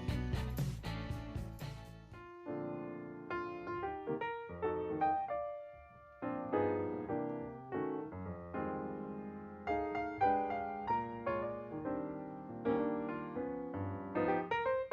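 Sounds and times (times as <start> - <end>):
slow piano chords: 0.0 - 14.9.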